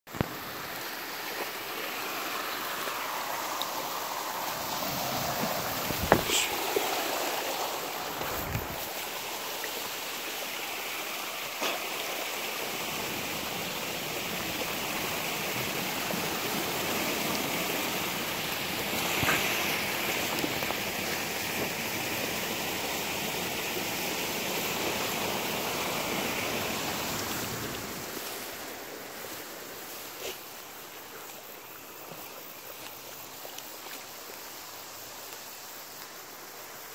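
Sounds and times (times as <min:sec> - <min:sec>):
river water running: 0:00.1 - 0:36.9.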